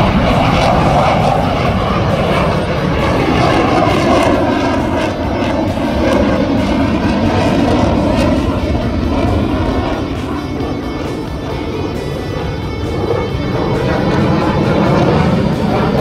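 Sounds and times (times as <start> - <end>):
fighter jet flying overhead: 0.0 - 16.0.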